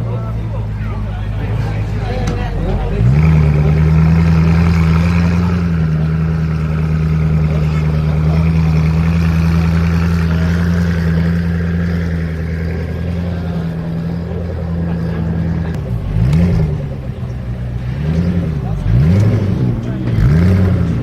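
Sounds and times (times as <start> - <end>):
car engine running steadily: 0.0 - 21.0.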